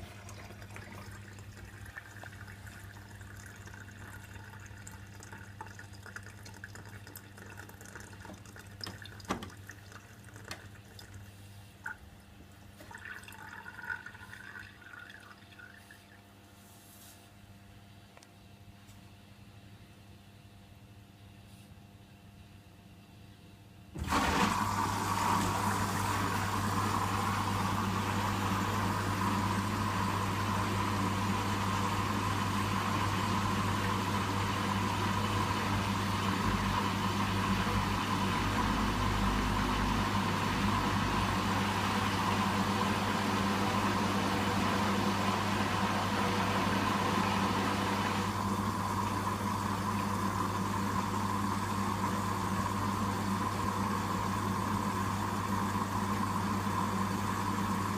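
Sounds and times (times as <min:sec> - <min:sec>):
washer-dryer humming: 0:00.0 - 0:17.2, 0:23.9 - 0:57.9.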